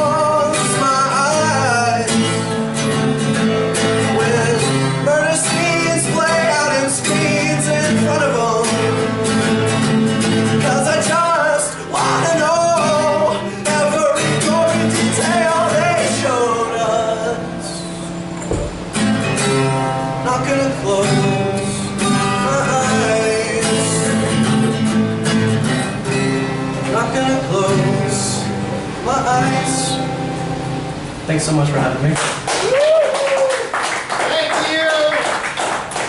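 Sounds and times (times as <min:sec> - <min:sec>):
strummed acoustic guitar: 0:00.0 - 0:32.2.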